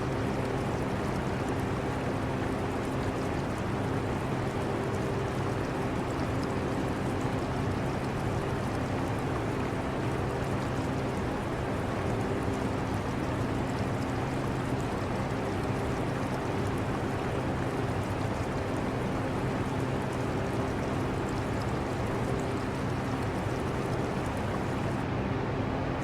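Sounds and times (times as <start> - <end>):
aquarium running water: 0.0 - 26.0.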